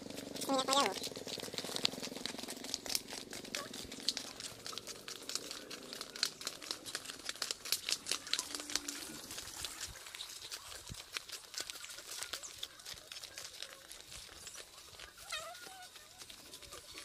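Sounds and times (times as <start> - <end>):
footsteps on dirt path: 0.0 - 17.0.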